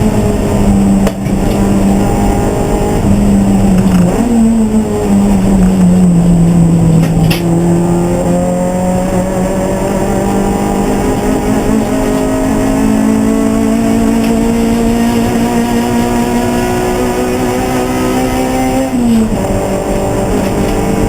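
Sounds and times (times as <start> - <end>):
racing car engine: 0.0 - 21.0.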